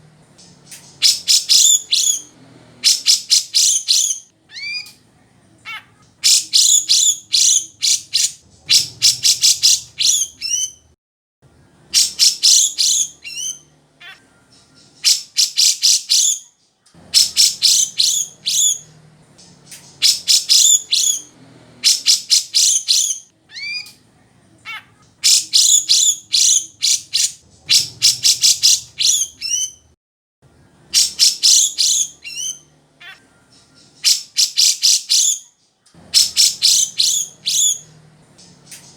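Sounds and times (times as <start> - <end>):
bird singing rapid high notes: 0.4 - 4.9, 5.7 - 10.9, 11.9 - 16.5, 17.1 - 23.9, 24.7 - 29.9, 30.9 - 35.5, 36.1 - 38.9.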